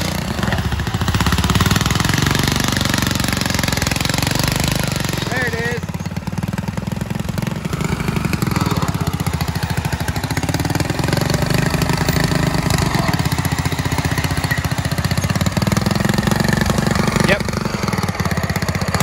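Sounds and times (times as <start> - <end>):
mower engine running: 0.0 - 19.0.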